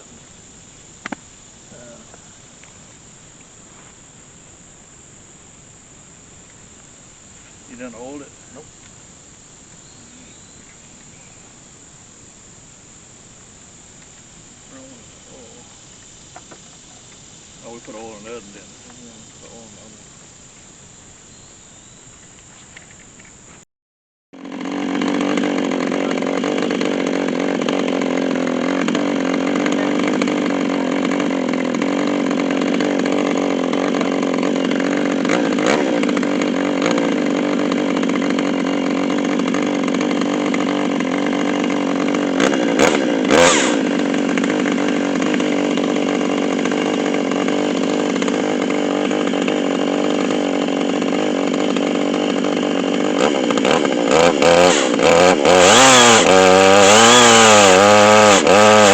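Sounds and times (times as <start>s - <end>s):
chainsaw running steadily: 0.0s - 23.5s, 24.3s - 58.9s.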